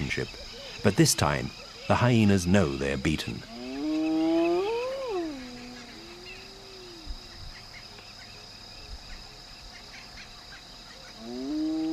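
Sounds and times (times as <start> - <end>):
insects trilling: 0.0 - 11.9.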